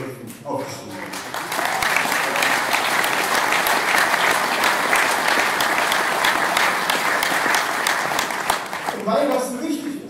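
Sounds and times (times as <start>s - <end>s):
audience applauding: 0.8s - 9.8s.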